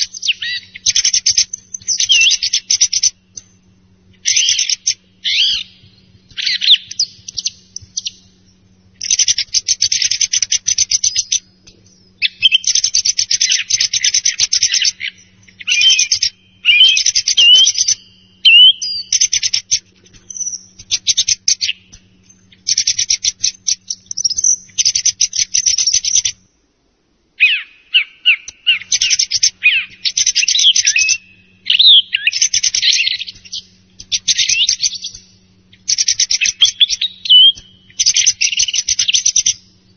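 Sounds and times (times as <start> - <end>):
song thrush singing: 0.0 - 26.6, 27.4 - 39.9.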